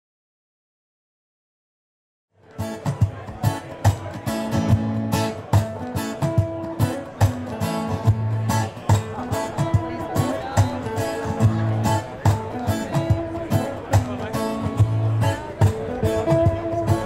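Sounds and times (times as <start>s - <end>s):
acoustic guitars strummed: 2.4s - 17.0s.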